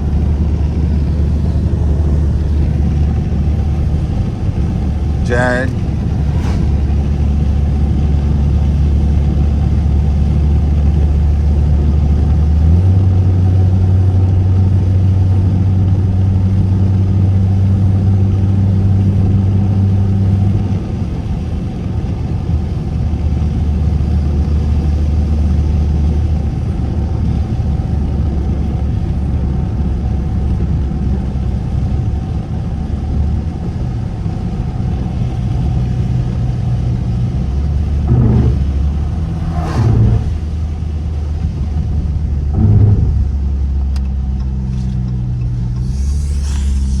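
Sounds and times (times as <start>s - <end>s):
car exhaust droning: 0.0s - 47.0s.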